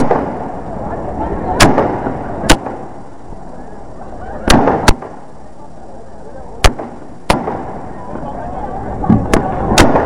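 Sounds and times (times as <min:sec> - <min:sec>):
firework bangs: 0:00.0 - 0:05.8, 0:06.4 - 0:10.0
murmur of voices: 0:00.0 - 0:10.0.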